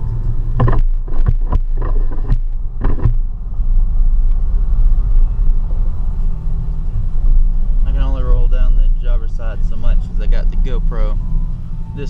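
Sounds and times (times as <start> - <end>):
exhaust drone inside cab: 0.0 - 12.0.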